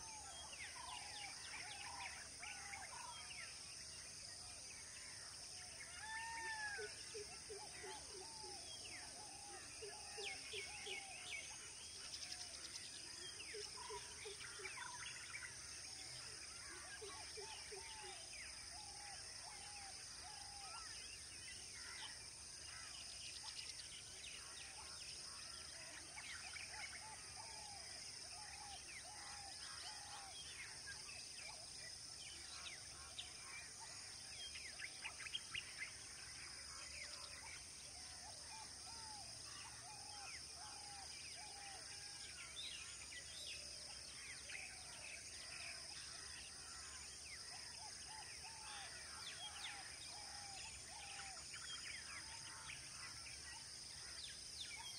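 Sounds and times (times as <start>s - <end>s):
wild birds chirping: 0.0s - 54.9s.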